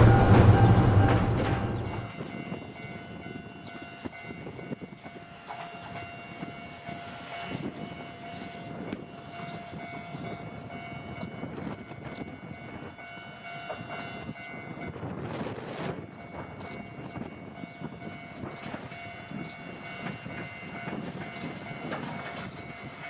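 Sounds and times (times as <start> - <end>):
electric trains rumbling: 0.0 - 23.0
held train tones: 0.0 - 23.0.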